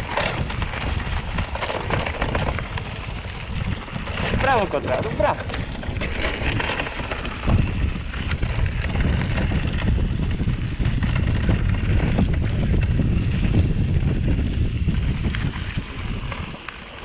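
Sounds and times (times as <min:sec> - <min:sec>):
bike knocks and rattles: 0:00.0 - 0:16.9
bike rolling over dirt trail: 0:00.0 - 0:17.0
wind buffeting microphone: 0:00.0 - 0:17.0.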